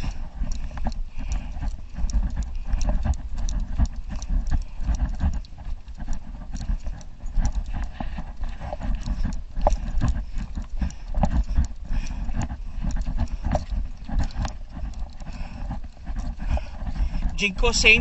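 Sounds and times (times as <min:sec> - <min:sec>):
irregular clicking and knocking: 0:00.0 - 0:18.0
steady low rumble: 0:00.0 - 0:18.0.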